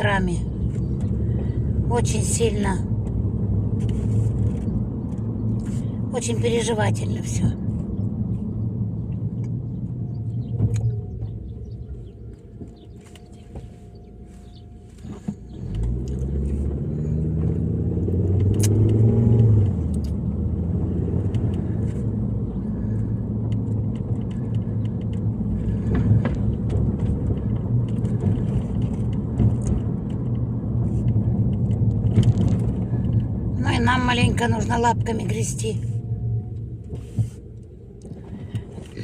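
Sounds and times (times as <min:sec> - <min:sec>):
car accelerating and driving: 0:00.0 - 0:39.0.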